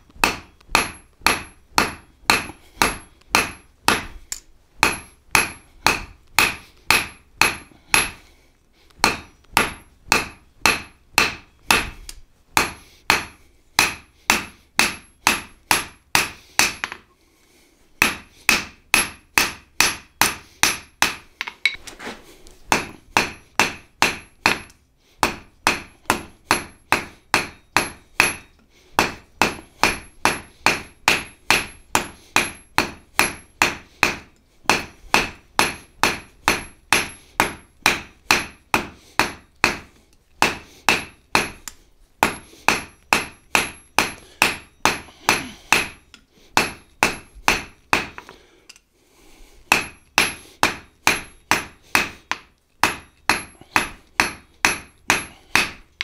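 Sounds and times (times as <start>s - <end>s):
hammer striking iron on anvil: 0.2s - 8.3s, 9.0s - 17.1s, 18.0s - 21.8s, 22.7s - 48.8s, 49.7s - 55.9s.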